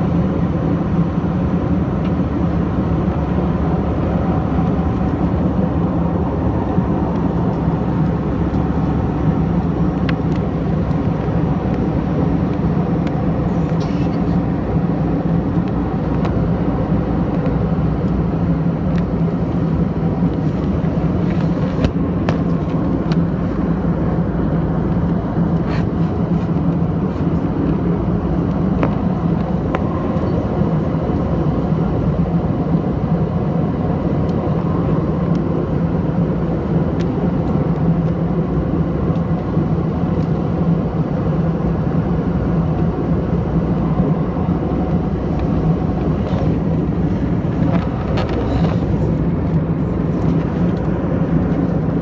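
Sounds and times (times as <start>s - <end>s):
airliner cabin drone: 0.0s - 52.0s.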